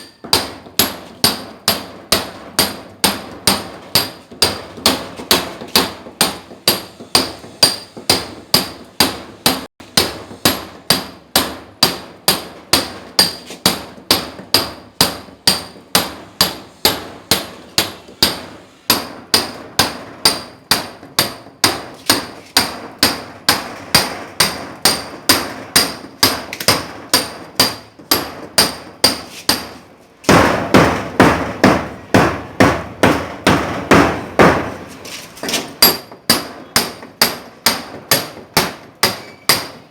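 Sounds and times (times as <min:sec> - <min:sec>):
hammer striking steel chisel: 0:00.0 - 0:39.9.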